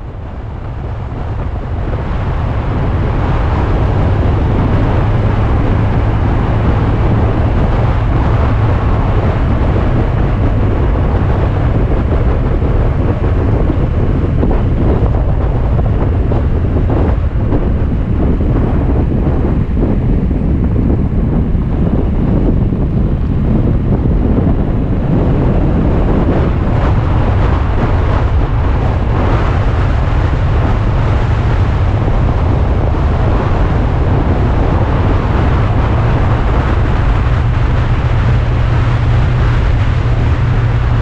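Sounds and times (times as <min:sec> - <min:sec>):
car engine and road rumble: 0:00.0 - 0:41.0
wind buffeting microphone: 0:00.0 - 0:41.0.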